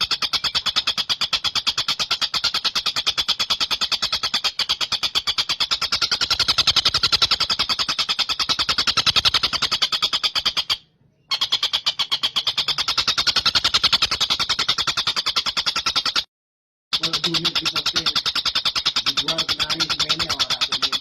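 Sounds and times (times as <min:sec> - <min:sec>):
bird chattering rapidly: 0:00.0 - 0:16.3, 0:16.9 - 0:21.0.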